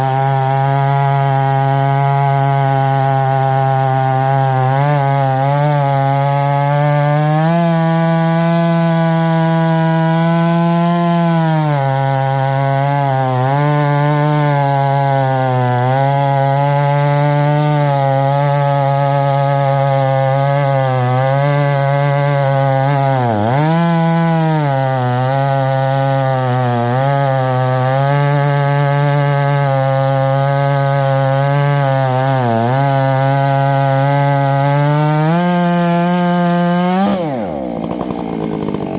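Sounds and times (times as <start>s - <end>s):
chainsaw ripping through log: 0.0s - 38.9s.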